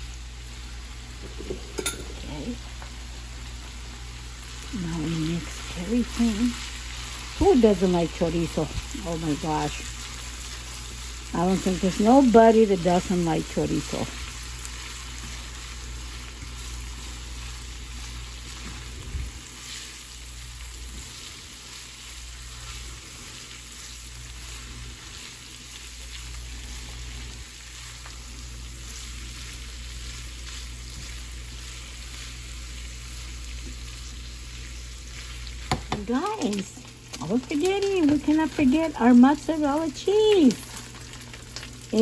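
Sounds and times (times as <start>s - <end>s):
meat sizzling in a pan: 0.0s - 42.0s.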